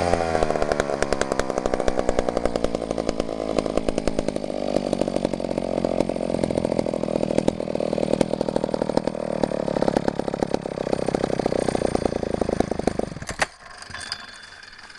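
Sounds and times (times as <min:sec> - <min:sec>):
chainsaw engine running: 0:00.0 - 0:14.9
chainsaw stopping click: 0:00.0 - 0:14.9.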